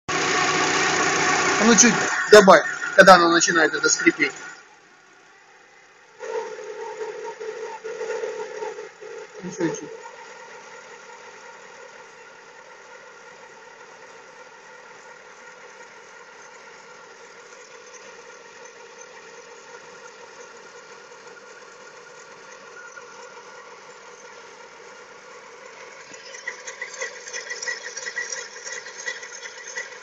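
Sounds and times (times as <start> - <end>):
petrol engine running: 0.0 - 30.0
engine squeak: 0.1 - 4.7, 6.2 - 30.0.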